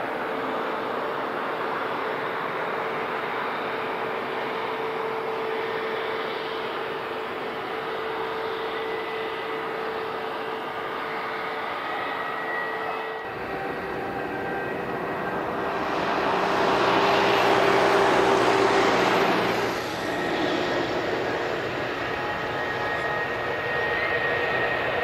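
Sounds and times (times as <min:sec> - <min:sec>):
jet airliner engines: 0:00.0 - 0:25.0.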